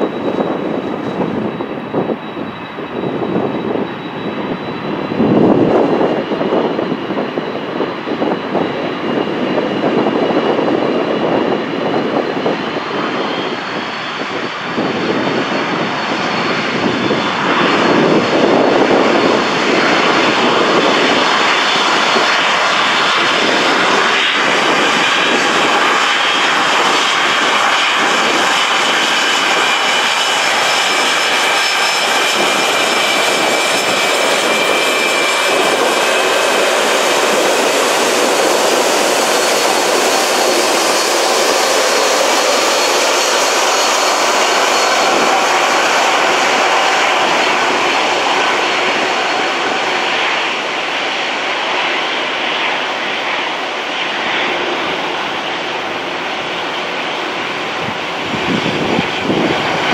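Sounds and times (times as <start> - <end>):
jet aircraft taxiing: 0.0 - 59.9.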